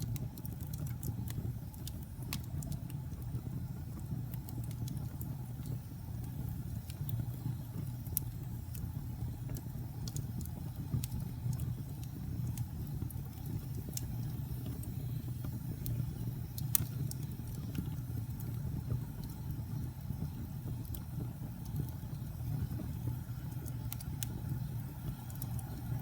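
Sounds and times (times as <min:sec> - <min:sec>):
loud fire pops: 0:00.0 - 0:26.0
low rumble of flames: 0:00.0 - 0:26.0
wood fire crackling: 0:00.0 - 0:26.0.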